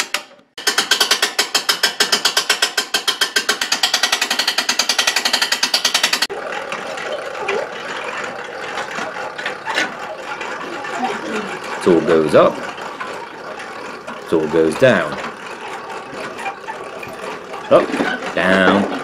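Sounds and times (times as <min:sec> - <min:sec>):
soft steady mechanical rattle: 0:00.0 - 0:19.0
winch ratcheting clicks: 0:00.0 - 0:19.0.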